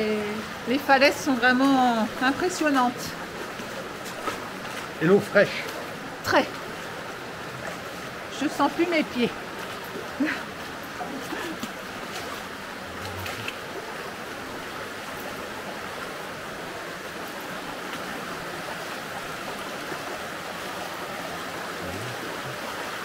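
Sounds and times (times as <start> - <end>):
river rushing over stones: 0.0 - 23.0.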